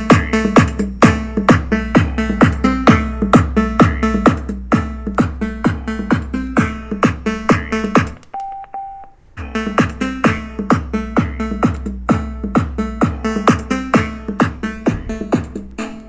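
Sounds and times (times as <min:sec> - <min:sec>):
bass-boosted electronic dance music: 0:00.0 - 0:08.2, 0:09.4 - 0:16.0.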